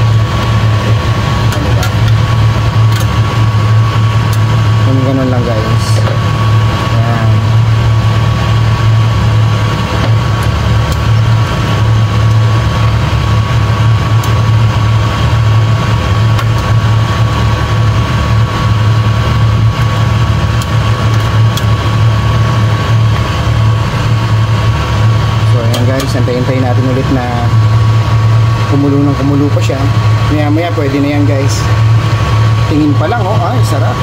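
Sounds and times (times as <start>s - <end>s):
fan motor humming: 0.0s - 34.0s
thin constant whine: 0.0s - 34.0s.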